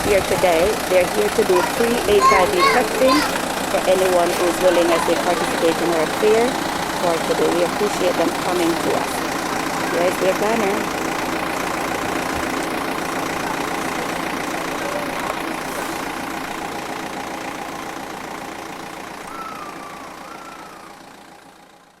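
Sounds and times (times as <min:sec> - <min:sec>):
faint voices: 0:00.0 - 0:16.2, 0:19.3 - 0:21.0
engine idling: 0:00.0 - 0:22.0.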